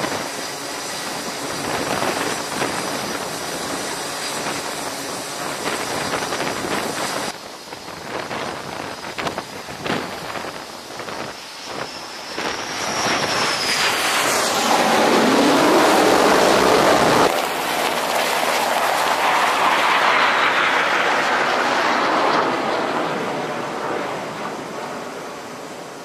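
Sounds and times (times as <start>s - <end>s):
high jet whine gliding down: 0.0s - 26.0s
jet aircraft roar: 0.0s - 26.0s.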